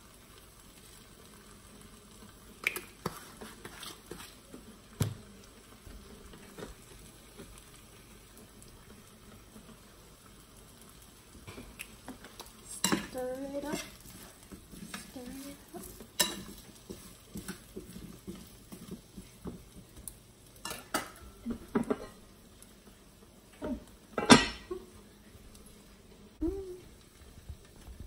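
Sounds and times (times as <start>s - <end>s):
vegetables sizzling in a frying pan: 0.0s - 28.0s.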